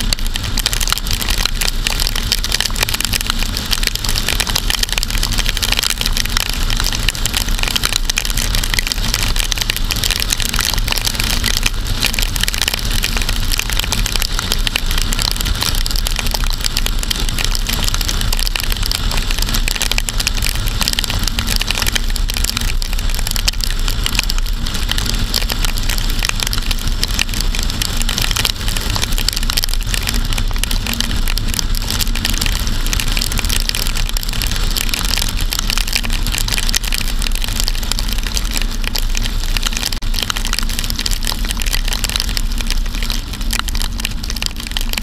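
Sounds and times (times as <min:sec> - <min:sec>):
low rumble: 0:00.0 - 0:45.0
raindrops hitting camera: 0:00.0 - 0:45.0.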